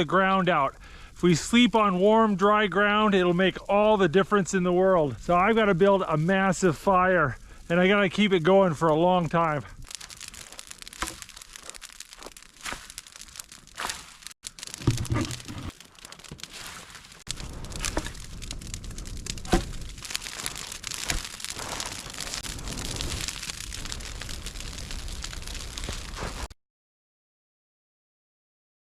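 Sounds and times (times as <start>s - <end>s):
campfire crackling and popping: 0.0s - 26.5s.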